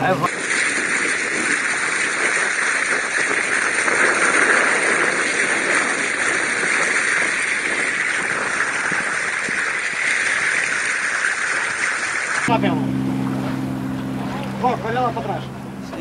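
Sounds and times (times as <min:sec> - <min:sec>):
water rushing and splashing along hull: 0:00.0 - 0:16.0.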